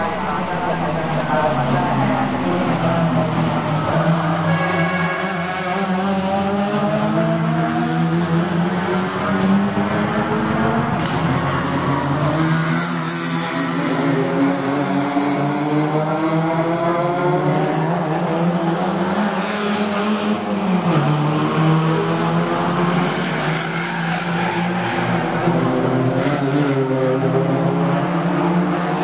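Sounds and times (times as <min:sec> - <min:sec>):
race car engines: 0:00.0 - 0:29.0.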